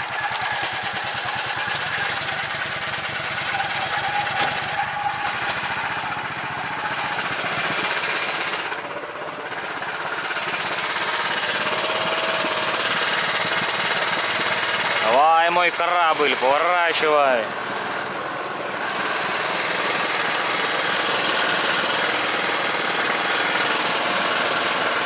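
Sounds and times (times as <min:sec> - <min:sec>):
engine running with rapid beat: 0:00.0 - 0:25.0.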